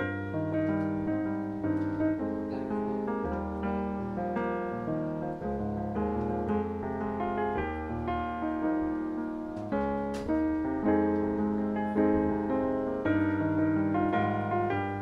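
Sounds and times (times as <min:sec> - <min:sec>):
keyboard chords over bass notes: 0:00.0 - 0:15.0.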